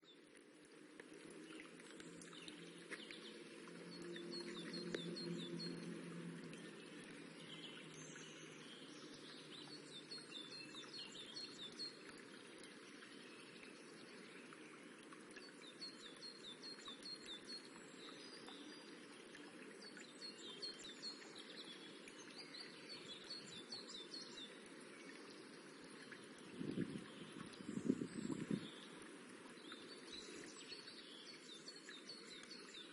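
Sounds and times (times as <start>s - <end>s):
stream rippling: 0.0s - 32.9s.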